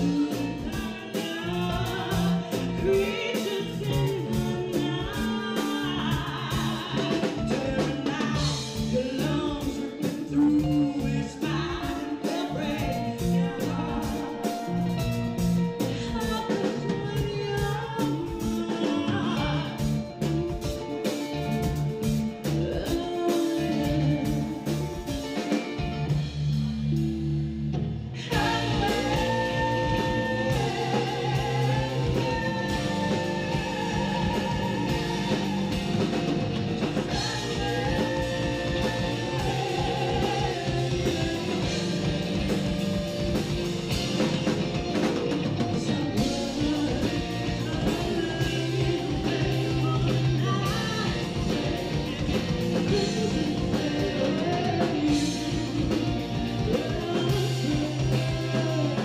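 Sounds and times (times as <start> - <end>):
low bass guitar notes: 0.0 - 9.7, 10.3 - 23.0, 23.6 - 59.0
woman singing with vibrato: 0.0 - 26.1, 28.2 - 59.0
rock band playing: 0.0 - 59.0.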